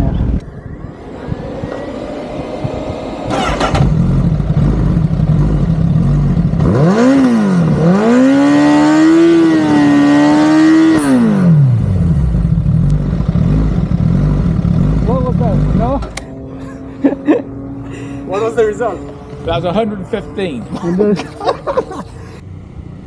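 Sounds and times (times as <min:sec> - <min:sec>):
motorbike engine revving: 0:00.3 - 0:23.0.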